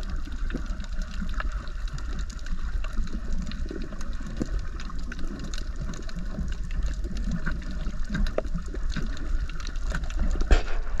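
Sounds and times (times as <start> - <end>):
muffled underwater rumble: 0.0 - 11.0
short clicks and crackles: 0.3 - 11.0.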